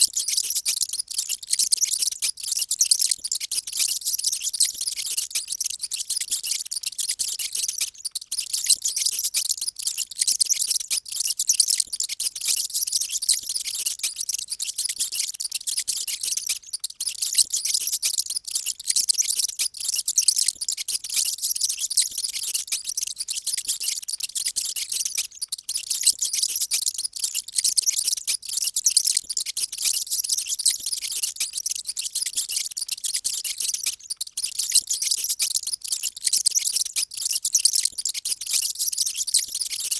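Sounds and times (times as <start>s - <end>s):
mice squeaking: 0.0s - 39.9s.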